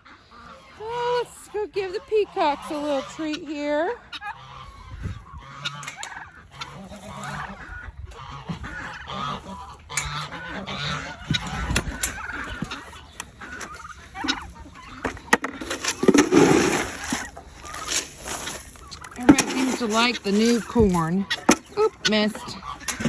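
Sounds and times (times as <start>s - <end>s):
chickens clucking: 0.0s - 23.0s
geese honking: 0.0s - 23.0s.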